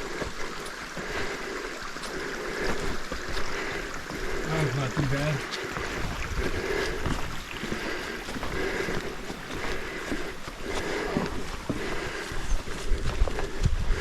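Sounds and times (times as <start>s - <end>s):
footsteps on forest trail: 0.0s - 14.0s
wind rumbling on microphone: 2.5s - 14.0s.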